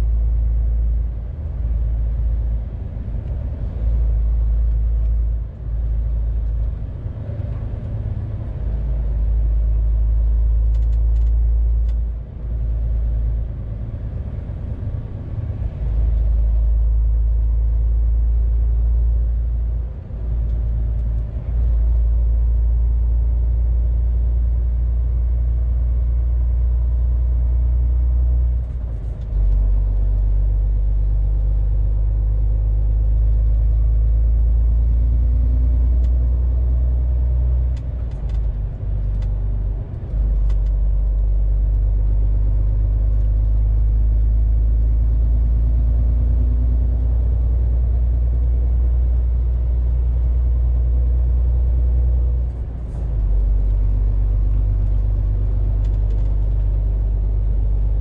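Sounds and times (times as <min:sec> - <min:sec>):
truck diesel engine and tyres droning: 0:00.0 - 0:58.0.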